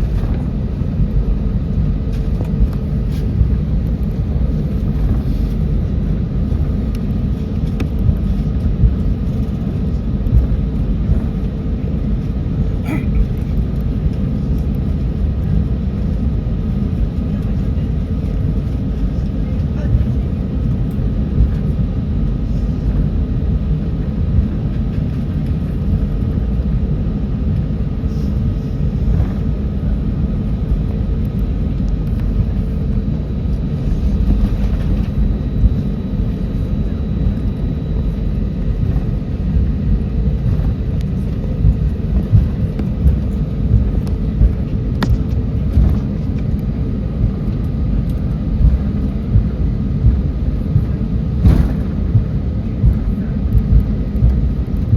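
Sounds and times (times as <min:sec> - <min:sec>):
aircraft cabin low rumble: 0:00.0 - 0:54.9.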